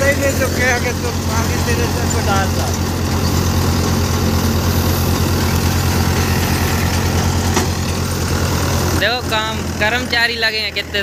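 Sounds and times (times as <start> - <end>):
threshing drum whirring: 0.0 - 11.0
tractor engine hum: 0.0 - 11.0.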